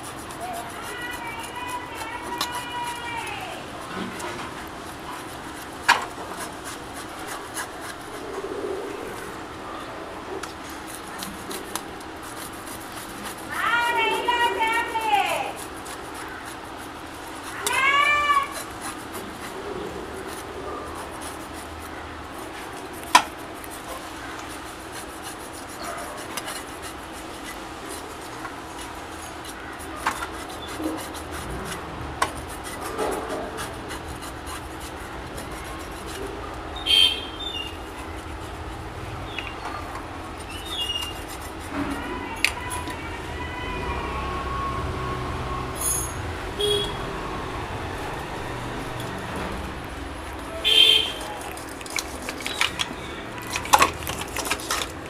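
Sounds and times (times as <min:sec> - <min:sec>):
cleaver scraping fish scales: 0:00.0 - 0:09.4, 0:10.5 - 0:55.0.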